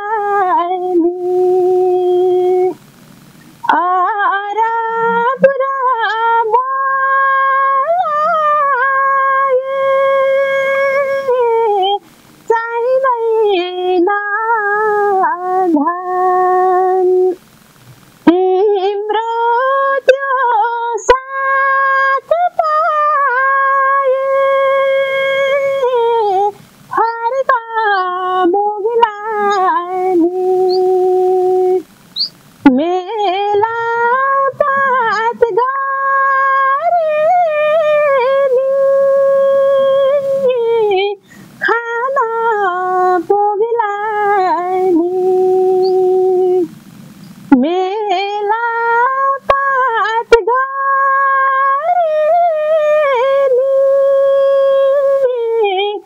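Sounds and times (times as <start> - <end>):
woman singing unaccompanied: 0.0 - 17.6, 18.2 - 56.0.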